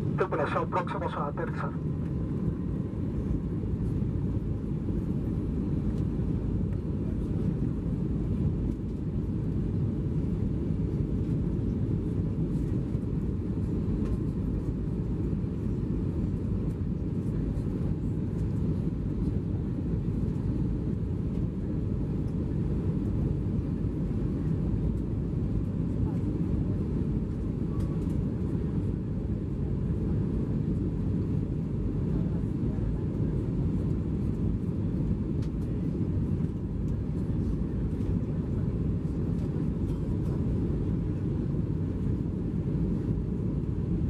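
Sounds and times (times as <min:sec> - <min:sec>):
airplane cabin engine noise: 0:00.0 - 0:44.0.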